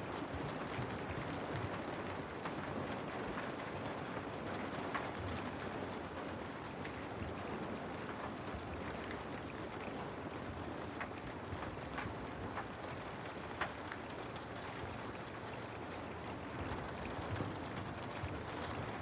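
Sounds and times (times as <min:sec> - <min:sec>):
rain on a window: 0:00.0 - 0:19.0.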